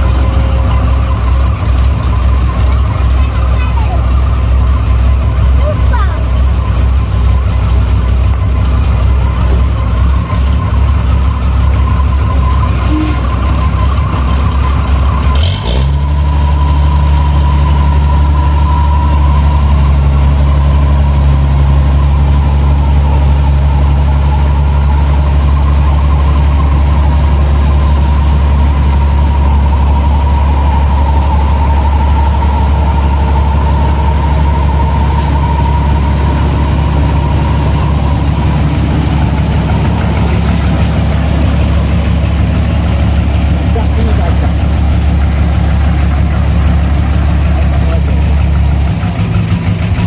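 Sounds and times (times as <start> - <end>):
combine harvester diesel engine running: 0.0 - 50.0
high machine whine: 0.0 - 50.0.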